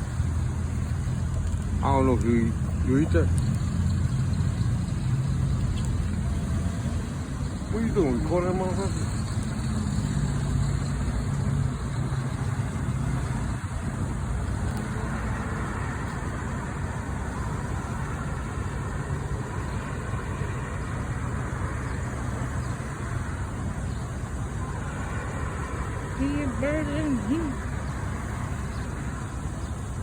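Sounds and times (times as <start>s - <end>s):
traffic noise: 0.0s - 30.0s
vehicle engine rumble: 0.0s - 30.0s.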